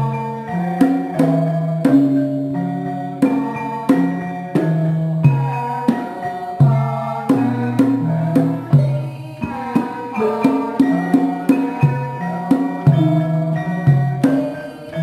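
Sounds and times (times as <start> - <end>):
gong-chime and metallophone melody: 0.0 - 15.0
hand drum strokes: 0.8 - 15.0.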